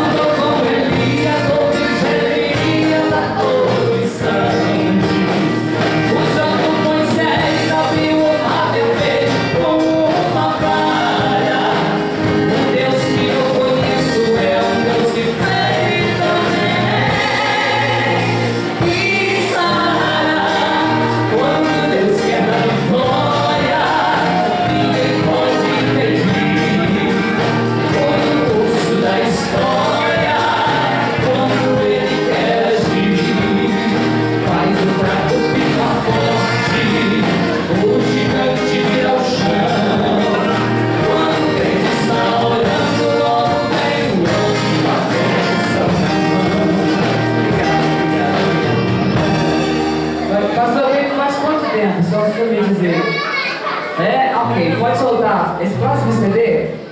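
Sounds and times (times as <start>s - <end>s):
woman and man singing duet: 0.0s - 48.8s
instrumental backing music: 0.0s - 56.9s.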